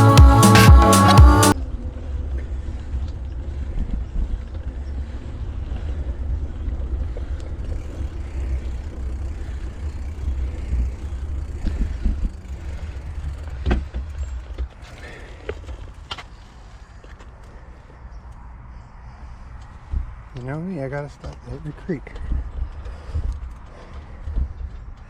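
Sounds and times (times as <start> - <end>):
bicycle tyres on pavement: 2.0 - 25.0.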